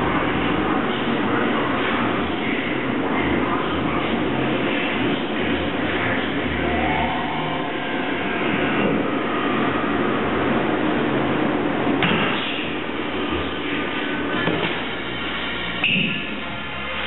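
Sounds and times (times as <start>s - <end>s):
air bike fan whooshing: 0.0s - 17.0s.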